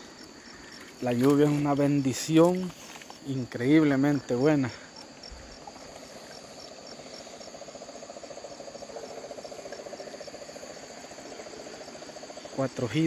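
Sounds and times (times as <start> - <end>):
crickets chirping: 0.0 - 13.0
low rapid insect trill: 0.0 - 13.0.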